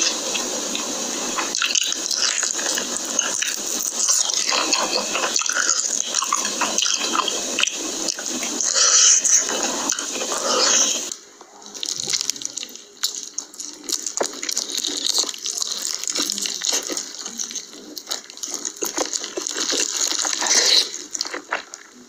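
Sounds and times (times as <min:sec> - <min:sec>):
wet chewing: 0:00.0 - 0:22.0.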